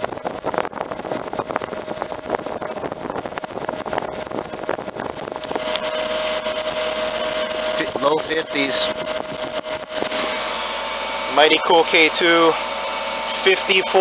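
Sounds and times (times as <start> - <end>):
fan blowing air with whine: 0.0 - 14.0.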